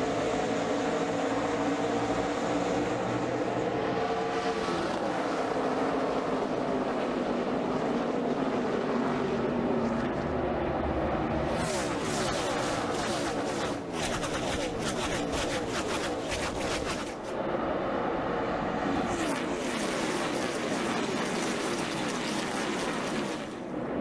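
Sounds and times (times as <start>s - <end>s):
race cars passing at full throttle: 0.0s - 14.0s, 16.8s - 24.0s.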